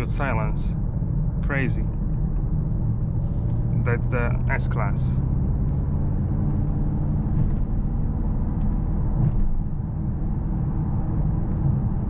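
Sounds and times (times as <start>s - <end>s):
car cabin road and engine drone: 0.0s - 12.0s.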